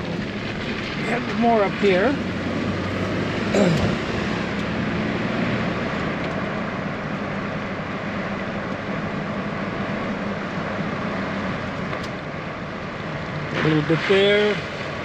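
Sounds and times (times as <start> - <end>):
road and tyre noise: 0.0 - 15.0
vehicle engine hum: 0.0 - 15.0.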